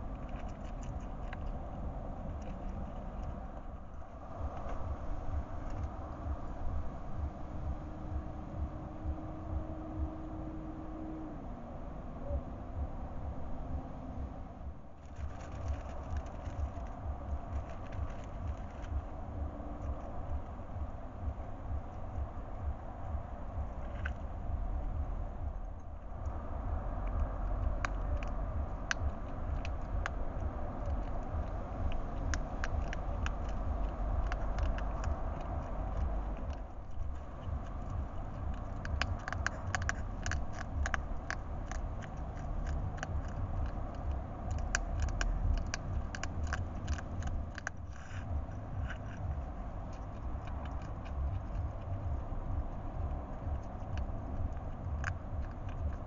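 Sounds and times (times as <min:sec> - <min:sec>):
hedgehog crunching food: 0:00.0 - 0:11.4, 0:12.2 - 0:56.0
low background rumble: 0:00.0 - 0:56.0.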